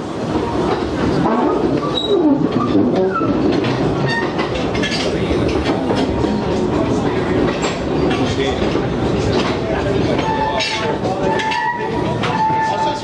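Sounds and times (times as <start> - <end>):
steam train rumbling past: 0.0 - 13.0.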